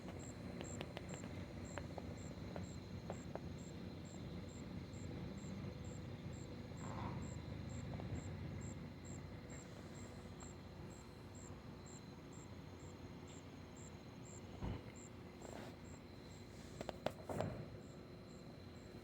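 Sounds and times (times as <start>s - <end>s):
night insect chirping: 0.0s - 19.0s.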